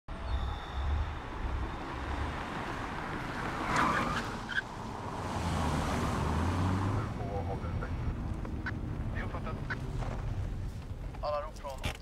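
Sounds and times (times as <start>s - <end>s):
brakes squealing: 0.1s - 11.8s
car engine and tyres rumbling: 0.1s - 12.0s.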